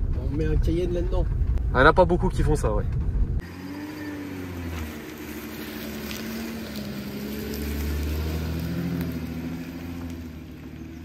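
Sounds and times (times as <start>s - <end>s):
suv engine running at low revs: 0.0s - 11.0s.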